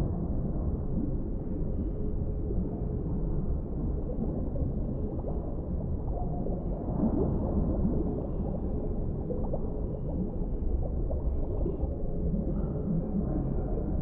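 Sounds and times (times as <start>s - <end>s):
bubbling gurgles: 0.0s - 14.0s
low underwater rumble: 0.0s - 14.0s.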